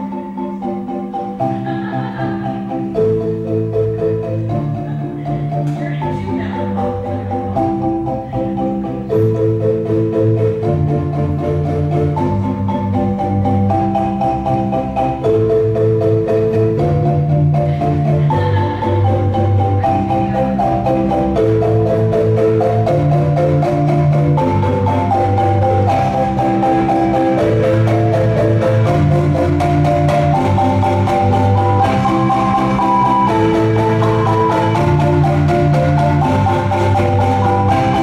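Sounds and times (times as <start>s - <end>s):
low bass marimba notes: 0.0s - 38.0s
marimba ensemble playing: 0.0s - 38.0s.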